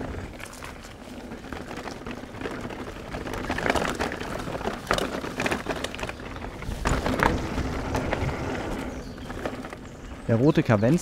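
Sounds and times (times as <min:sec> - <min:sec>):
bike rattling and knocking: 0:00.0 - 0:11.0
bike tyres on dirt trail: 0:00.0 - 0:11.0.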